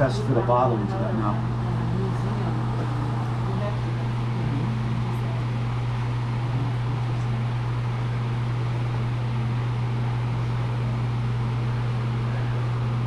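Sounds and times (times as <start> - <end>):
electric blower motor humming: 0.0 - 13.0.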